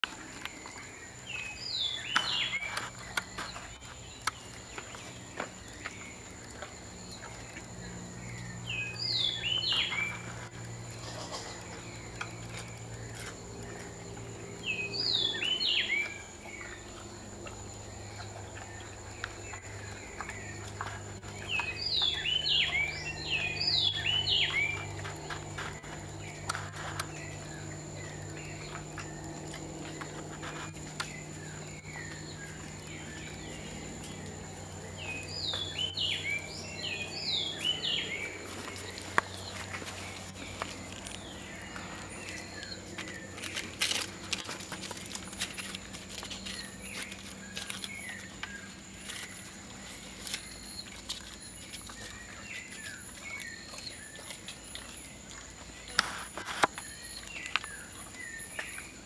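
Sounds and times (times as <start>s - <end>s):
low hum: 0.1s - 55.9s.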